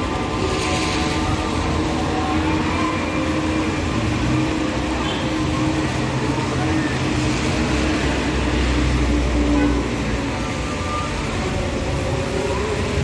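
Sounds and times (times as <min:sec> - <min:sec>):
tyres on wet asphalt: 0:00.0 - 0:13.0
vehicle engines running: 0:00.0 - 0:13.0.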